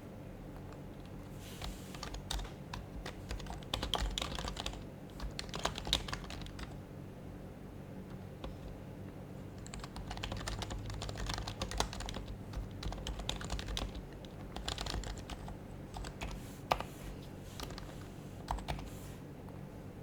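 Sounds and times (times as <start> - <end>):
typing on quiet keyboard: 0.5 - 6.8, 8.0 - 17.0, 17.6 - 18.9.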